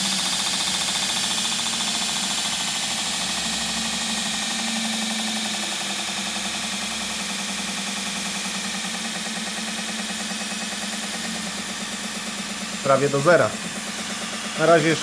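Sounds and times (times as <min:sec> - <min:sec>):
belt grinder motor hum: 0:00.0 - 0:15.0.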